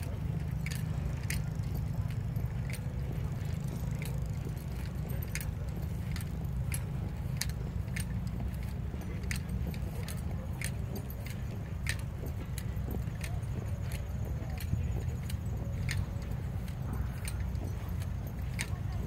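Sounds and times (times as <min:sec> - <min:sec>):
light jingling clicks: 0:00.0 - 0:19.0
steady low rumble: 0:00.0 - 0:19.0.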